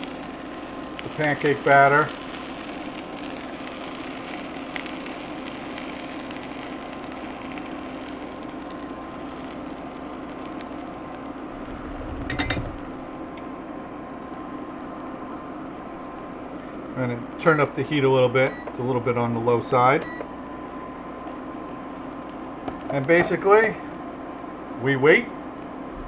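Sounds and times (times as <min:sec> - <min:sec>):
batter sizzling in a skillet: 0:00.0 - 0:16.9, 0:19.1 - 0:26.0
faint kitchen hum: 0:00.0 - 0:26.0.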